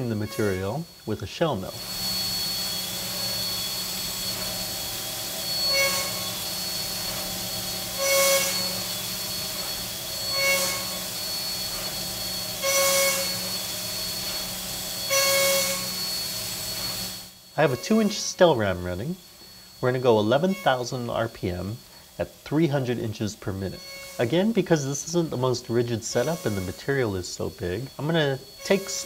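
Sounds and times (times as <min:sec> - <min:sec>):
metal cutting noise: 0:00.0 - 0:29.0
spindle hum and whine: 0:00.0 - 0:29.0.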